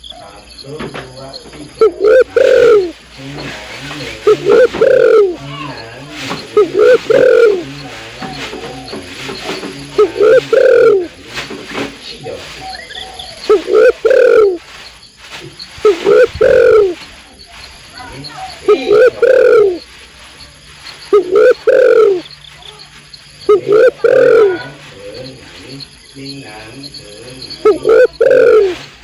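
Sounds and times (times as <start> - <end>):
dove cooing: 0.0 - 29.0.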